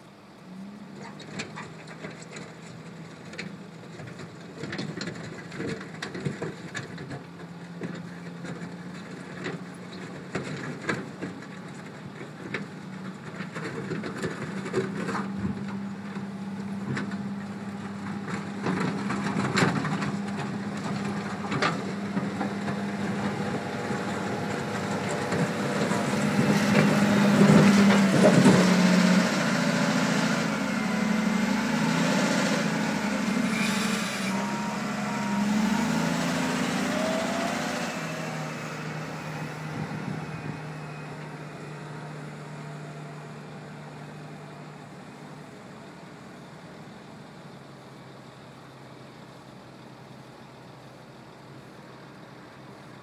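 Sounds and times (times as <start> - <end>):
wheel loader diesel engine: 0.0 - 53.0.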